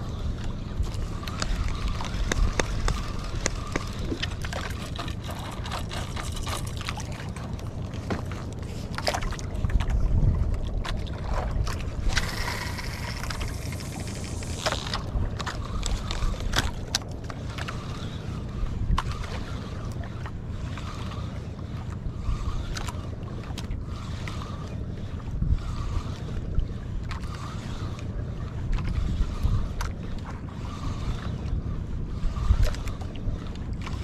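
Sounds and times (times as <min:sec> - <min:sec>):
water sloshing around boat: 0:00.0 - 0:34.0
wind: 0:00.0 - 0:34.0.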